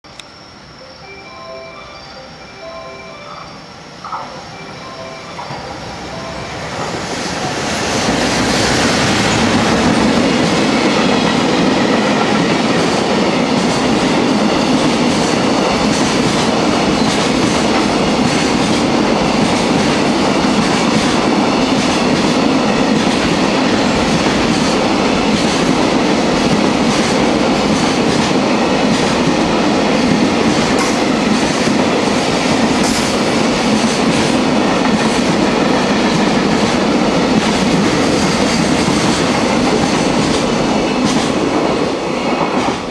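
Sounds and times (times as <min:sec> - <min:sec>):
freight train wheels clattering: 0:05.3 - 0:42.9.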